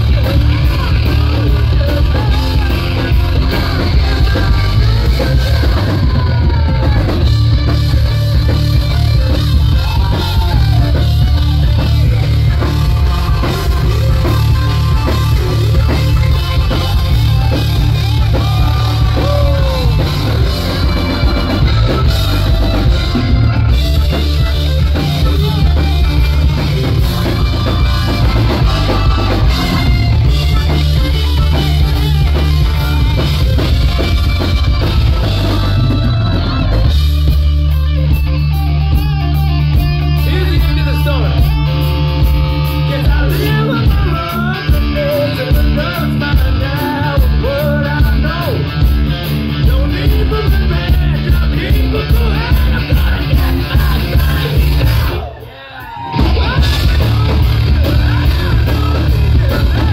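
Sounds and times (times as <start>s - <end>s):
distorted electric guitars: 0.0s - 59.9s
drum kit: 0.0s - 59.9s.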